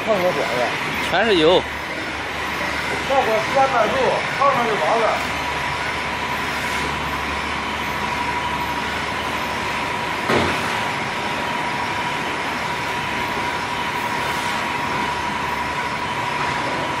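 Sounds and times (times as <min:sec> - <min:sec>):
fryer machinery running with whine: 0:00.0 - 0:17.0.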